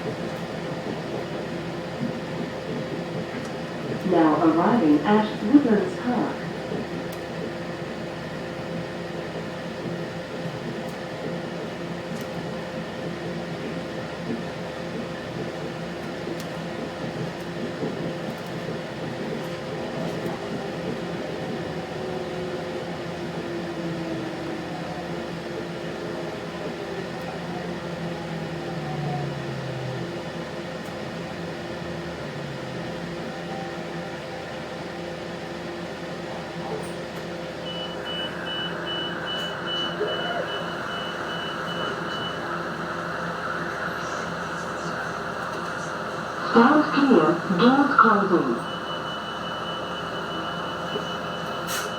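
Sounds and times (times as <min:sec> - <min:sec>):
railcar engine hum: 0:00.0 - 0:51.9.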